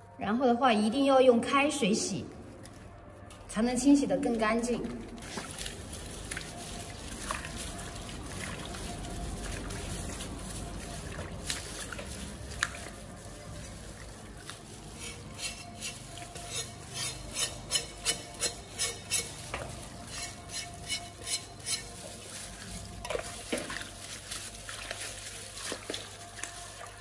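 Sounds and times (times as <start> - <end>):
water swishing: 4.3 - 27.0
sponge scrubbing strokes: 5.2 - 27.0.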